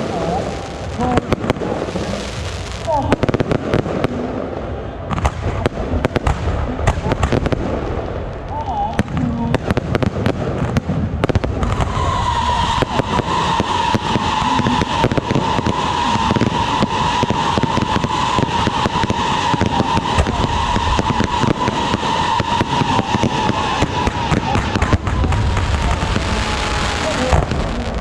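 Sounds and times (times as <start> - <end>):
firecrackers crackling: 0.0 - 28.0.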